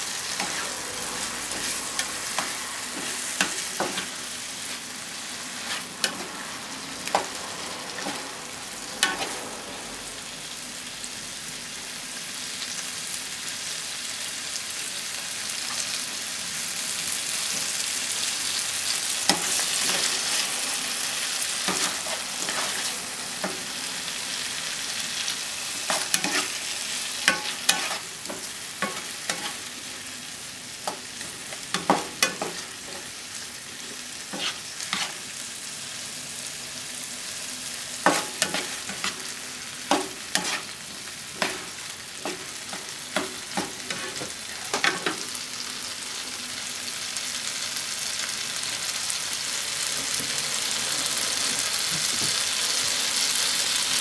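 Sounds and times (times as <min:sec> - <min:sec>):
tomatoes sizzling in a frying pan: 0:00.0 - 0:54.0.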